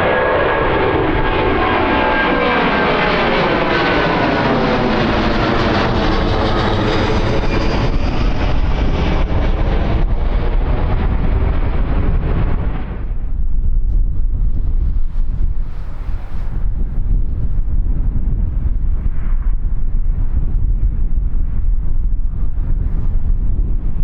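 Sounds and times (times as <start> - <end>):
deep rumble: 0.0 - 24.0
jet engine whine: 0.0 - 24.0
wind noise on microphone: 0.0 - 24.0.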